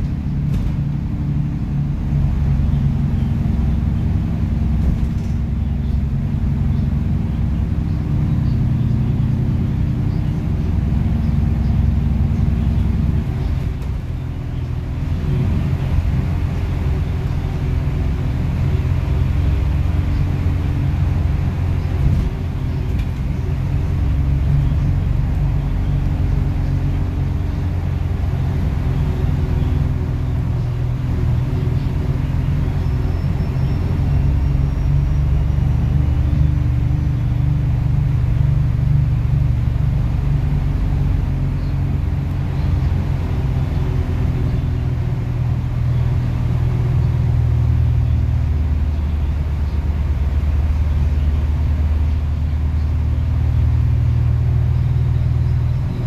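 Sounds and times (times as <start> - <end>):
bus engine drone: 0.0 - 56.0
road rumble: 0.0 - 56.0.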